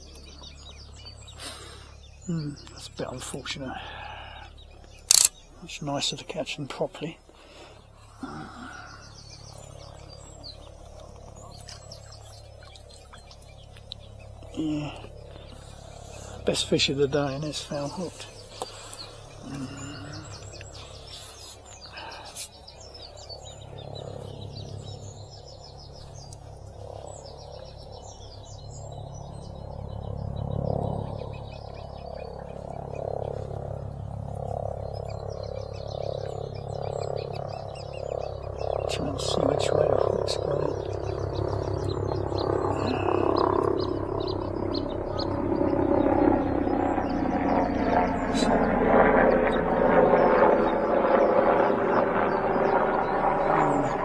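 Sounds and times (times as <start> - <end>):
aircraft engine droning: 0.0 - 54.0
small birds twittering: 0.0 - 54.0.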